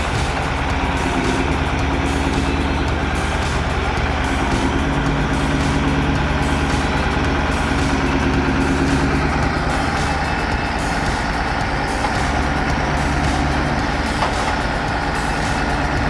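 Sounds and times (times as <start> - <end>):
background music: 0.0 - 16.0
heavy truck engine under load: 0.0 - 16.0.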